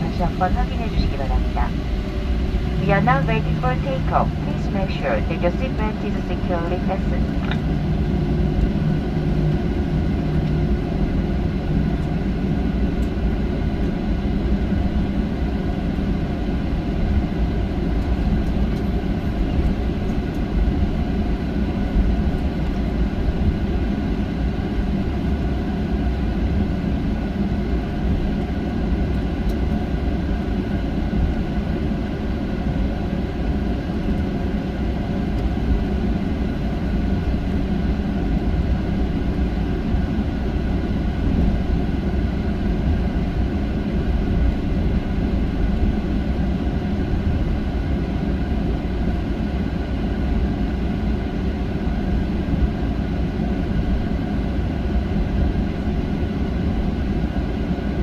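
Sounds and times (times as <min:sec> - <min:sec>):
faint steady hum tones: 0:00.0 - 0:58.0
jet engine cabin rumble: 0:00.0 - 0:58.0.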